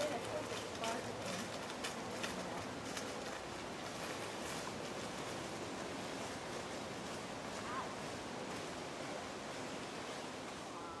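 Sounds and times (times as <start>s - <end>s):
forest ambience rush: 0.0s - 11.0s.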